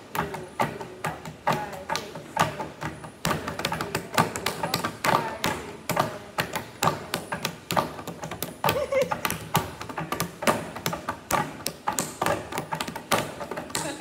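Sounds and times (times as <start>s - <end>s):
hands slapping wooden tabletop: 0.6s - 14.0s.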